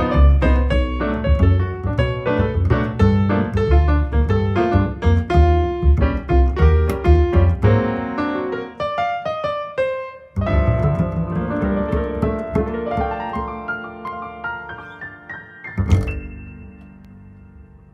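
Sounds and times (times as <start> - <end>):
double bass notes: 0.0 - 8.4, 10.4 - 14.4, 15.7 - 17.9
jazz piano: 0.0 - 17.9.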